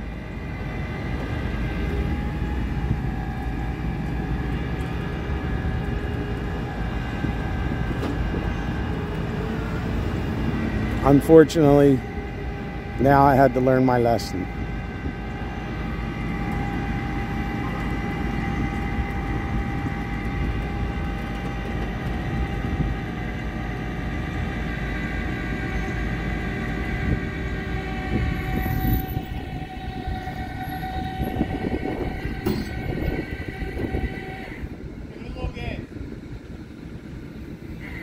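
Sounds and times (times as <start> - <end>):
low engine rumble: 0.0 - 38.0
machinery whine: 0.0 - 38.0.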